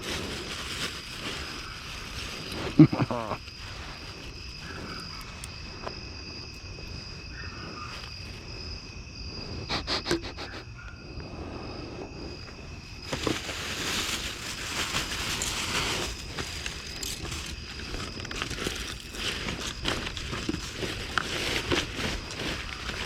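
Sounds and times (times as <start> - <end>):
trash rustling and crinkling: 0.0 - 8.5, 11.7 - 23.0
crickets trilling: 0.0 - 23.0.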